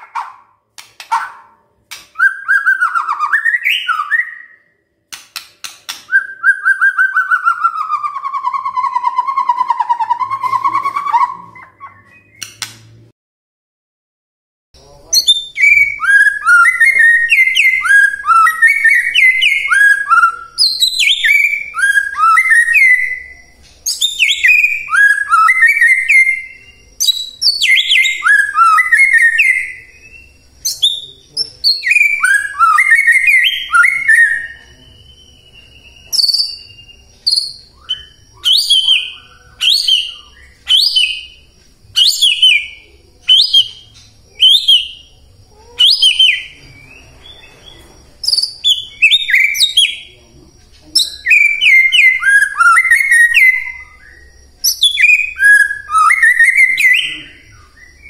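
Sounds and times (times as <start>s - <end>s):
bird singing whistled notes: 1.1s - 4.9s, 5.9s - 12.6s, 14.8s - 58.0s.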